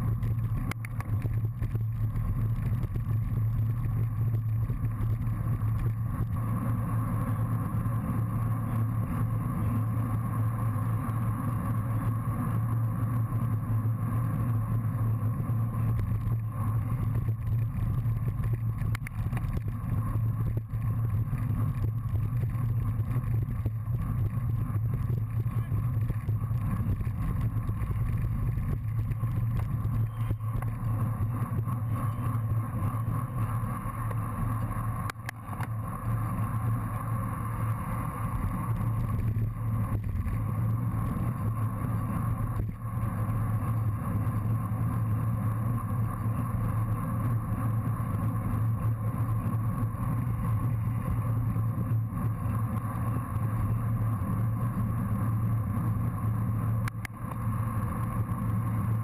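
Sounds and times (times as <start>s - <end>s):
constant low drone: 0.0s - 59.0s
wind and road rumble: 0.0s - 59.0s.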